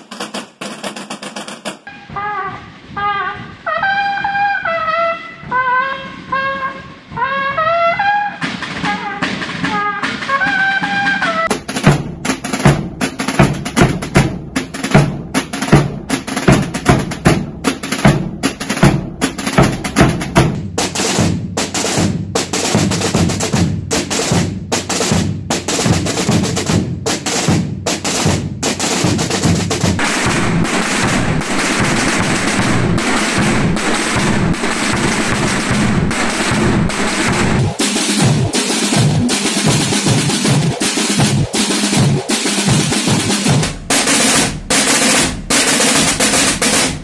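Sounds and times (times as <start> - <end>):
bass drums and snare drums: 0.0 - 47.0.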